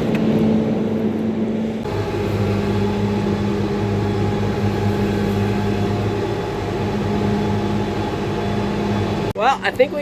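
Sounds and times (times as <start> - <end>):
farm machine engine running: 0.8 - 10.0.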